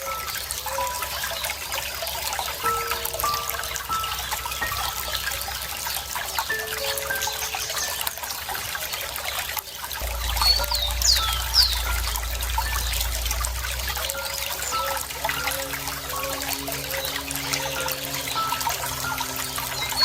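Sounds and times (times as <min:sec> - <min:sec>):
birds chirping: 0:00.0 - 0:20.0
water trickling and splashing: 0:00.0 - 0:20.0.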